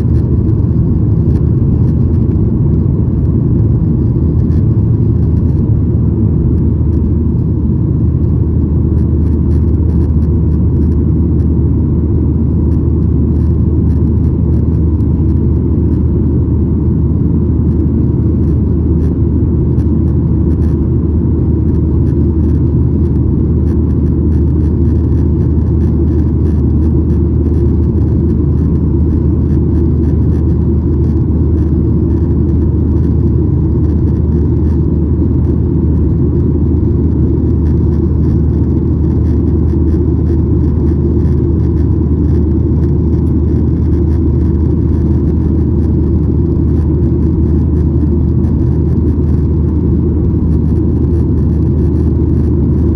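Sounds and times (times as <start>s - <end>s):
jet engine cabin rumble: 0.0s - 52.9s
low hum: 0.0s - 52.9s.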